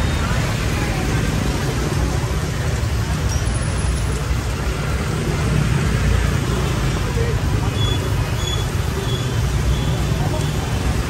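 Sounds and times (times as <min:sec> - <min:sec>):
motorbikes and cars on wet road: 0:00.0 - 0:11.0.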